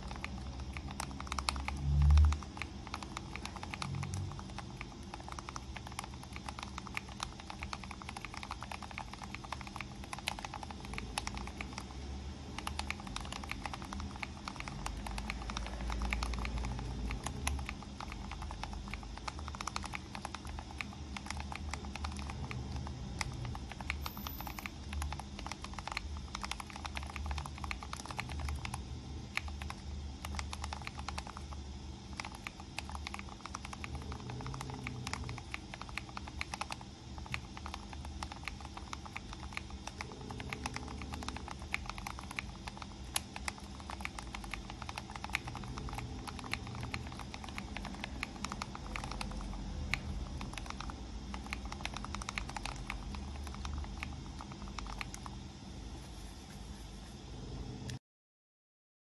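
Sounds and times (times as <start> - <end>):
fast mechanical keyboard typing: 0.0 - 55.4.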